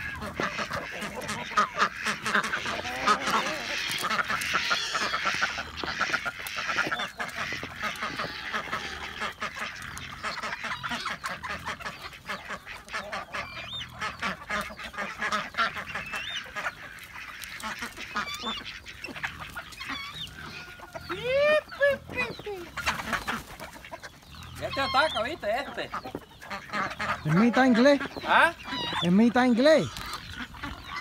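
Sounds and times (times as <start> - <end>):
ducks quacking and chickens calling: 0.0 - 31.0.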